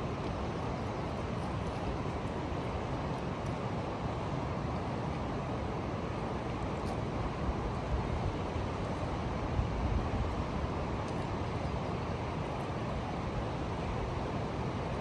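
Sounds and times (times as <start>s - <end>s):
river current rushing: 0.0s - 15.0s.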